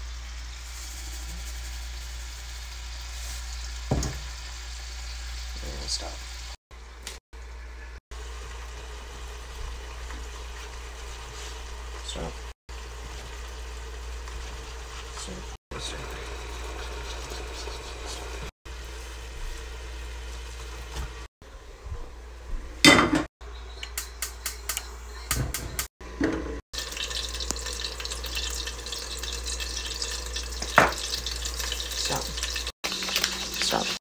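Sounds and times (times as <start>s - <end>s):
oil sizzling in frying pan: 0.0s - 7.2s, 8.1s - 21.3s, 26.8s - 34.0s.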